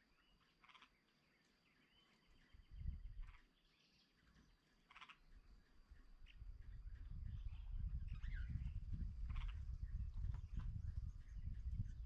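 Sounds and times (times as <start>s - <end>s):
faint bird chirps and trill: 0.0s - 12.0s.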